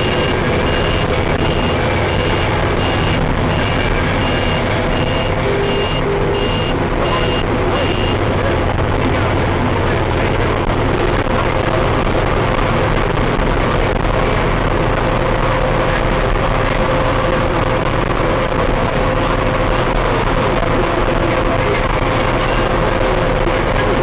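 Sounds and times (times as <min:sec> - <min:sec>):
engine and road drone: 0:00.0 - 0:24.0
faint steady whine: 0:00.0 - 0:24.0.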